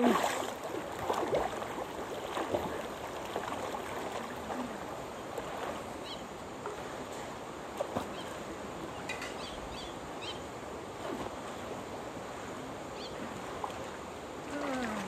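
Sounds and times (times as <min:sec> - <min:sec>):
pool water lapping: 0:00.0 - 0:15.0.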